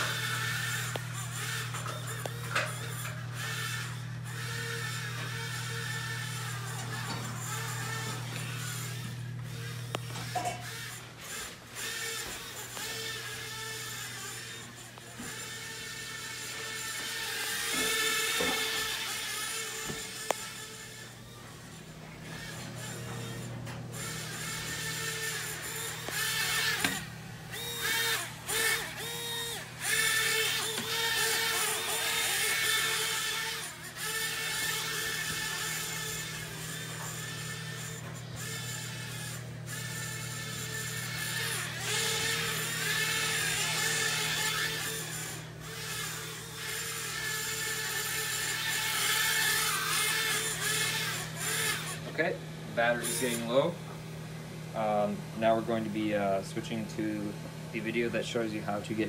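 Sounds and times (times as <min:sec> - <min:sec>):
tiny fan motors whining: 0:00.0 - 0:59.0.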